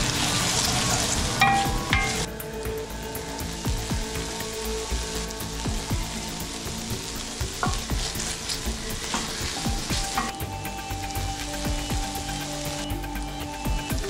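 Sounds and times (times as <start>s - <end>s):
onions sizzling in a pot: 0.0s - 14.0s.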